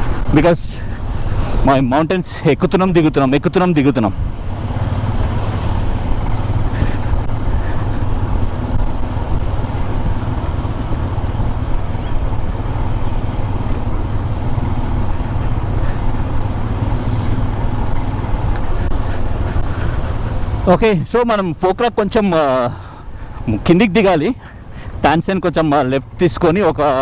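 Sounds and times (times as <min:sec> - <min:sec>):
motorcycle engine rumble: 0:00.0 - 0:27.0
road and wind noise: 0:00.0 - 0:27.0.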